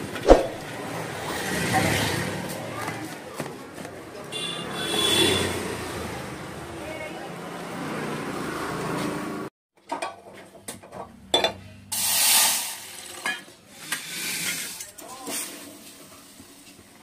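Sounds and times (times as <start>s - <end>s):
street stall din: 0.0s - 17.0s.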